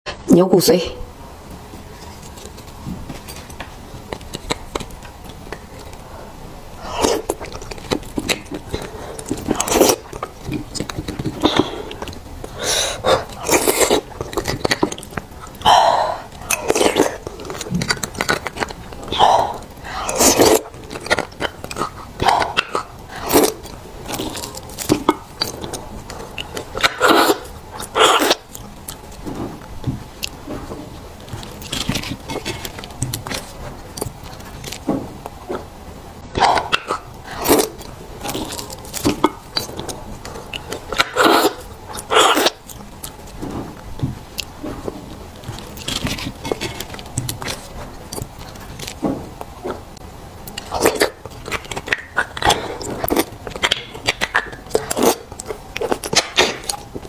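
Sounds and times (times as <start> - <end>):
chewing soft marrow: 1.6 - 57.0.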